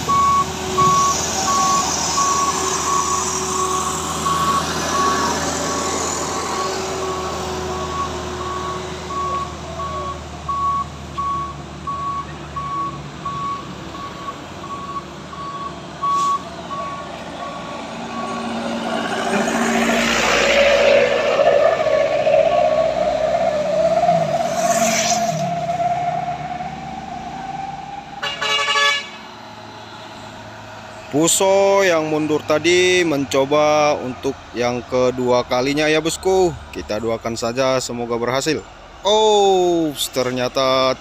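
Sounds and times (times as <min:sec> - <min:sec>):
truck reversing alarm beeping: 0:00.0 - 0:33.8
diesel engine rumble: 0:00.0 - 0:41.0
traffic noise: 0:00.0 - 0:41.0.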